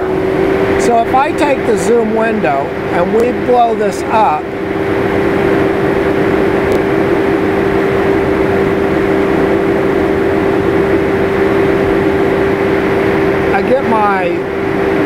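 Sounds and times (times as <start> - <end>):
mechanical drone: 0.0 - 15.0.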